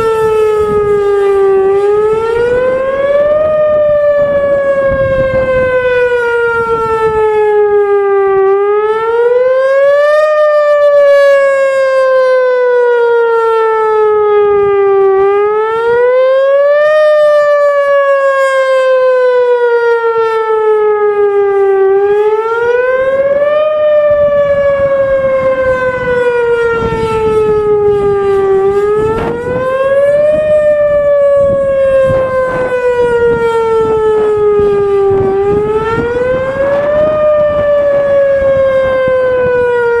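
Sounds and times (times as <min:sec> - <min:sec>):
electronic warning siren wail: 0:00.0 - 0:40.0.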